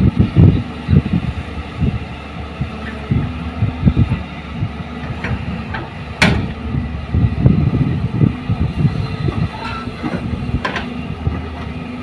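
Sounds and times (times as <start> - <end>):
diesel engines rumbling: 0.0 - 12.0.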